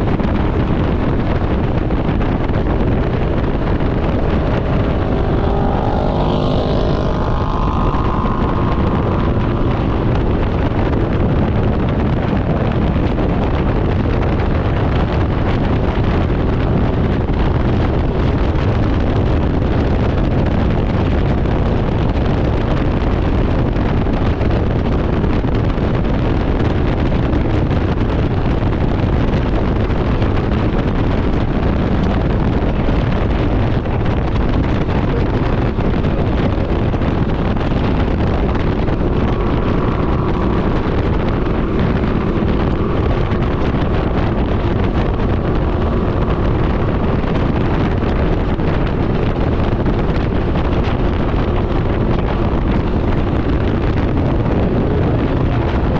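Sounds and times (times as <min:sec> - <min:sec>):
motorcycle engine drone: 0:00.0 - 0:55.9
wind rushing over microphone: 0:00.0 - 0:55.9.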